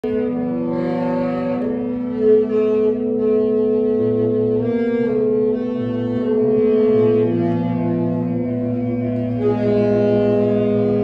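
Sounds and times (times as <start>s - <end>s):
horns and reed long held notes: 0.0s - 11.0s.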